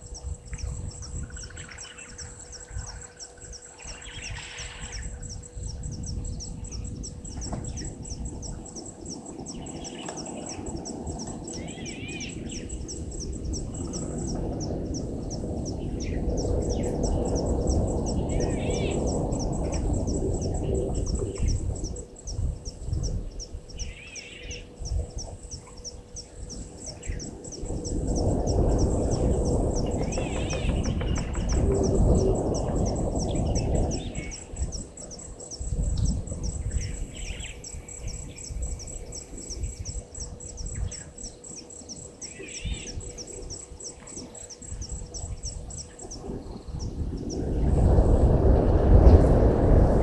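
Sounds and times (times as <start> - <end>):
birds calling: 0.0 - 47.6
insect chirping: 0.0 - 49.8
low rumbling noise: 0.0 - 50.0.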